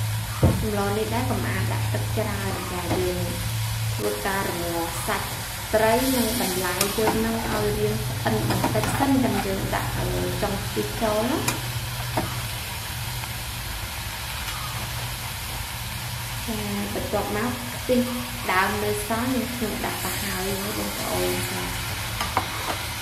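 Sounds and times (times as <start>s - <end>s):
food sizzling: 0.0s - 23.0s.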